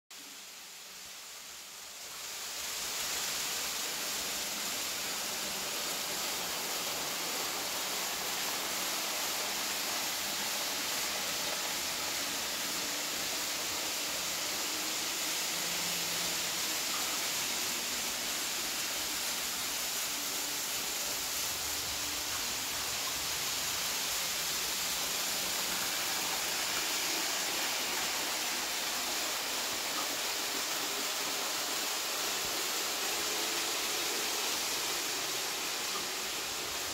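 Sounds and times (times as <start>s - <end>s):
model trains rushing hiss: 0.2s - 36.9s.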